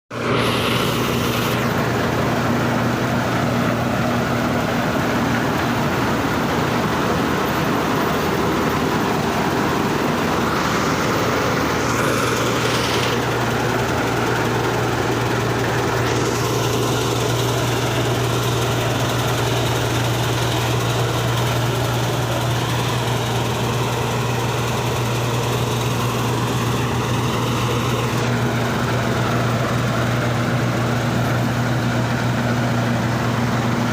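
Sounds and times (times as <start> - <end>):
combine harvester engine humming: 0.1 - 33.9.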